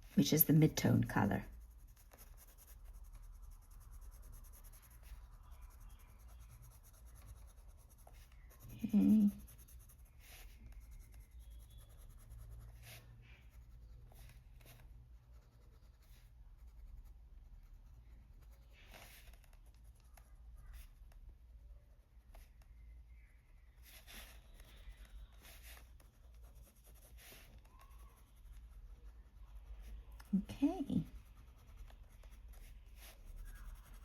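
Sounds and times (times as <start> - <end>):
pencil scratching on paper: 0.0 - 22.7, 23.7 - 34.0.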